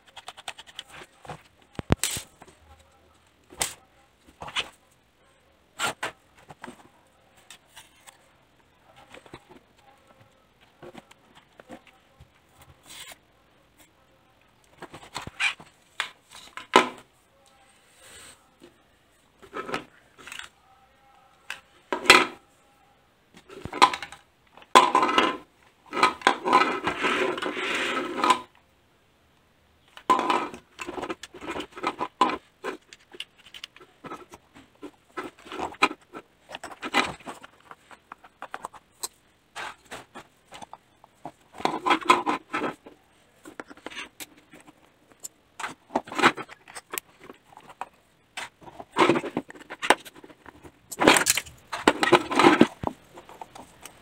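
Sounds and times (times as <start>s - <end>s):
plastic parts clicking and scraping: 0.0s - 5.0s, 5.8s - 17.1s, 18.6s - 20.6s, 21.4s - 22.4s, 23.3s - 28.6s, 29.8s - 54.0s.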